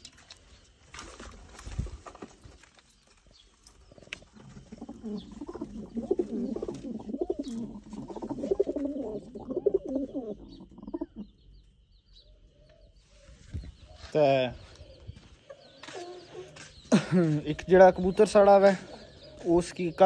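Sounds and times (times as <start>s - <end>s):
pigeons cooing: 3.7s - 20.0s.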